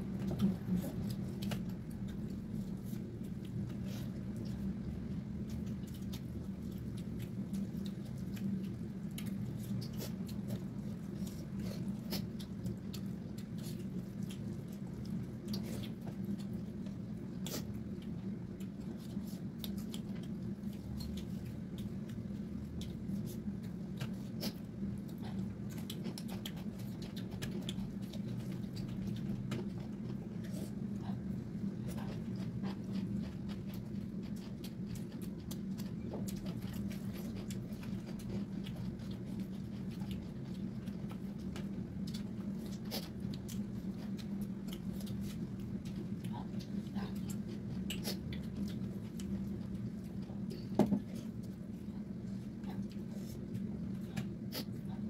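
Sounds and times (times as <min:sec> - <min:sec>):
people chewing food: 0:00.0 - 0:55.0.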